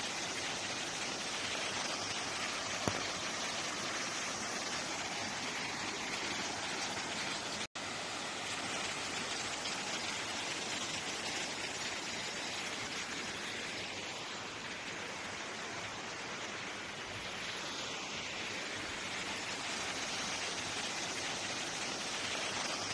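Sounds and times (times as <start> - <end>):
water rushing: 0.0 - 22.9.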